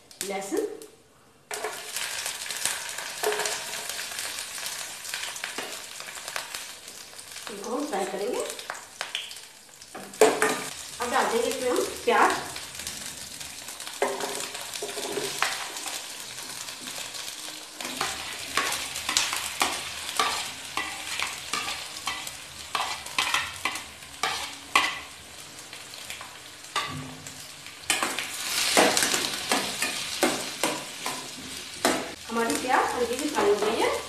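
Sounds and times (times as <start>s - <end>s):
onion sizzling in hot oil: 0.0s - 34.0s.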